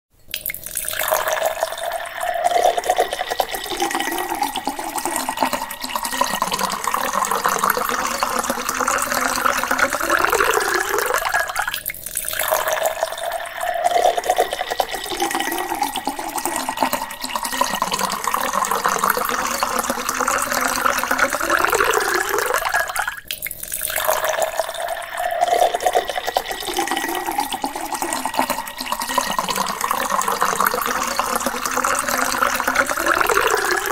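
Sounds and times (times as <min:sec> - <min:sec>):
water pouring into a glass: 0:00.2 - 0:33.9.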